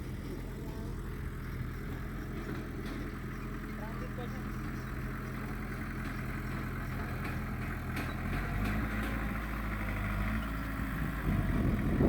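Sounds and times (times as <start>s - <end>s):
diesel engine of heavy machinery: 0.0s - 12.0s.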